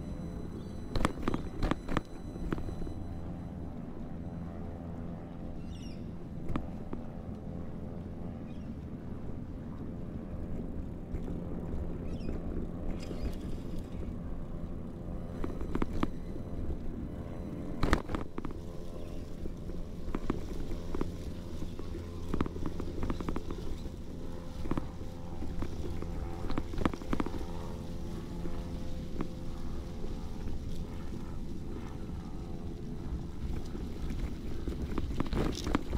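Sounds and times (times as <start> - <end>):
road rumble: 0.0 - 35.9.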